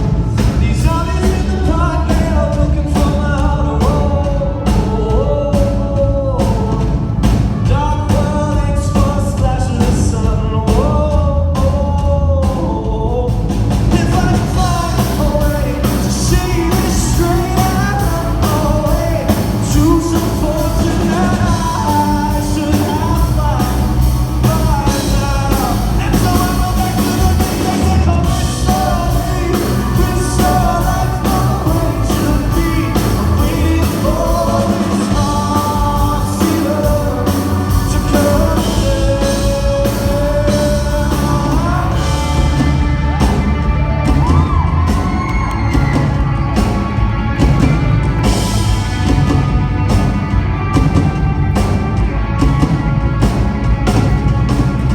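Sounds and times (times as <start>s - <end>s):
male lead vocal singing: 0.0s - 49.6s
drum beat: 0.0s - 54.9s
live pop rock band: 0.0s - 54.9s.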